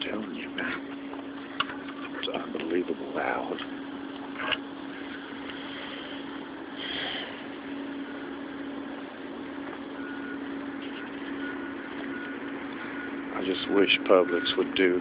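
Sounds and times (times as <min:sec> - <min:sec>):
idling machinery drone: 0:00.0 - 0:15.0.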